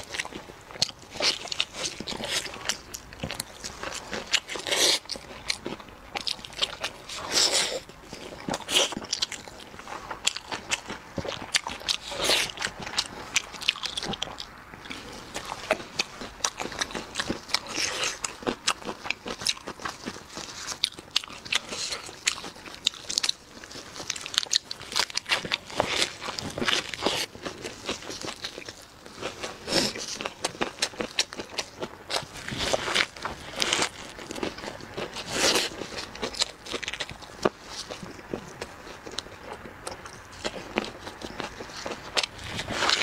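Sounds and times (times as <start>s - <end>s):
chewing and crunching food: 0.0s - 43.0s.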